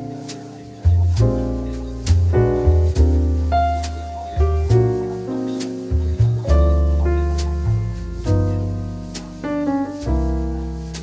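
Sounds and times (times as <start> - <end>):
piano music over bass line: 0.0 - 11.0.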